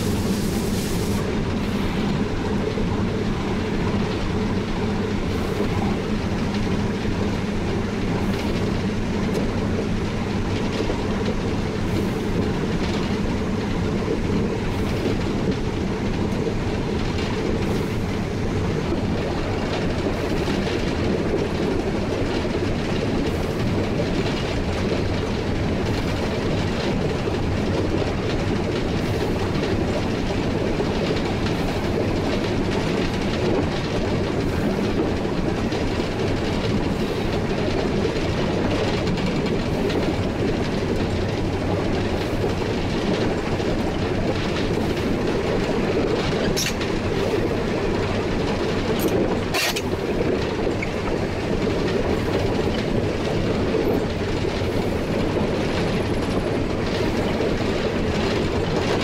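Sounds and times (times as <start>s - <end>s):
steam locomotive rumble: 0.0s - 59.0s
wheels clicking over rail joints: 1.2s - 59.0s.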